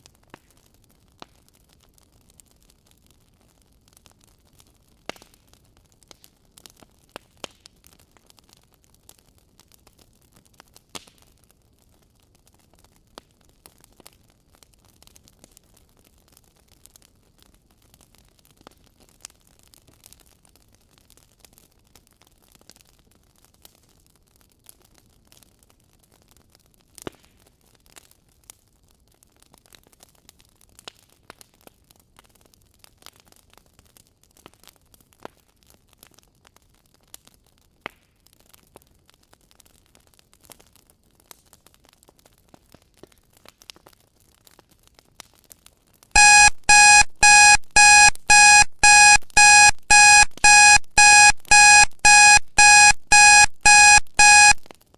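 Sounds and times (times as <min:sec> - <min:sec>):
wood fire crackling and popping: 0:00.0 - 0:46.1.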